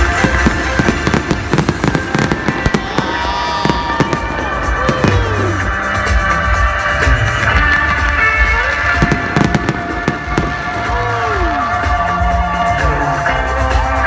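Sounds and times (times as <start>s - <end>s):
fireworks bangs and crackling: 0.0s - 13.8s
music playing: 0.0s - 14.0s.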